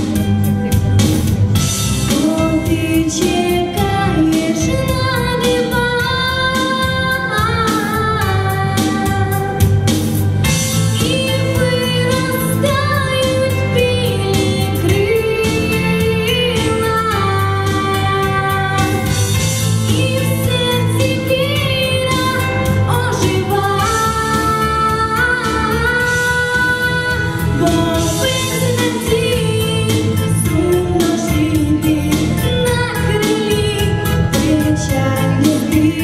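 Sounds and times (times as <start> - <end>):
instrumental accompaniment: 0.0 - 36.0
girl singing into microphone: 2.1 - 9.8, 11.0 - 19.3, 19.9 - 36.0.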